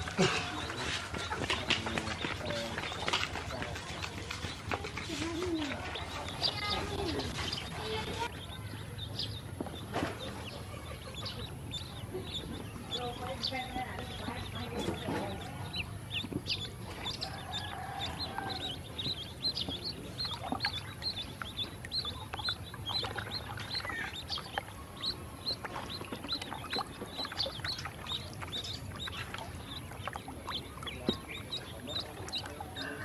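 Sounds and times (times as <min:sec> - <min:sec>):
ducklings peeping: 0:00.0 - 0:33.0.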